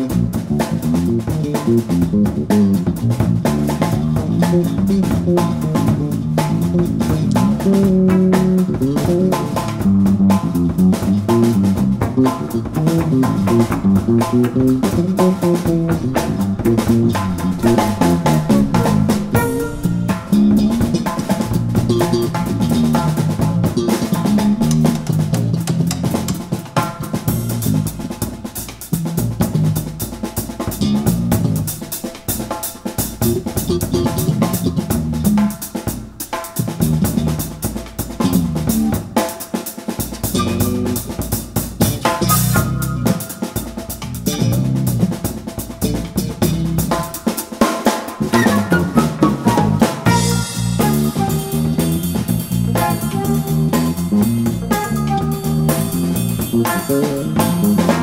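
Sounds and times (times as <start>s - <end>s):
electric bass line: 0.0s - 28.1s, 30.8s - 31.8s, 33.2s - 35.5s, 38.2s - 39.1s, 40.3s - 41.2s, 41.8s - 43.4s, 44.0s - 45.2s, 45.8s - 47.0s, 48.2s - 58.0s
drum kit: 0.0s - 58.0s
jazz-funk band playing: 0.0s - 58.0s.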